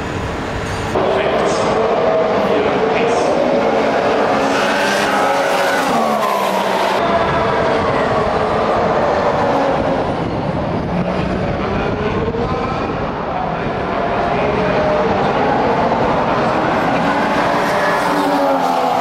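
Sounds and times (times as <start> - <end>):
racing car engines passing: 0.0 - 19.0.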